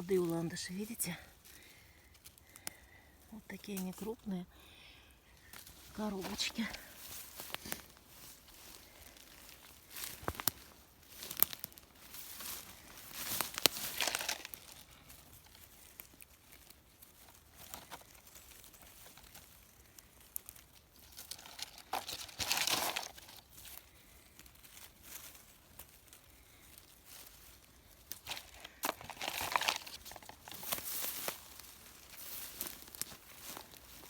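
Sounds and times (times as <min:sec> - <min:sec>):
rustling of undergrowth and leaves: 0:00.0 - 0:34.0.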